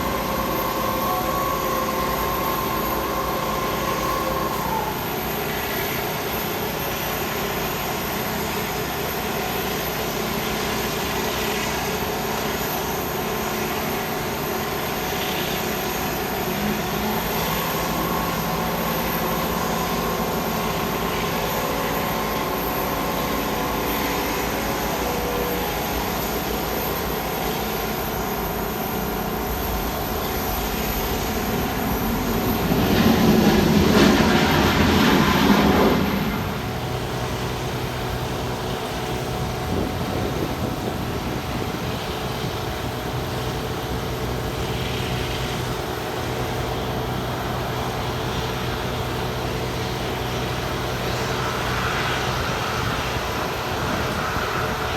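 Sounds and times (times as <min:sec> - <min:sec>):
aircraft engines whining: 0:00.0 - 0:54.9.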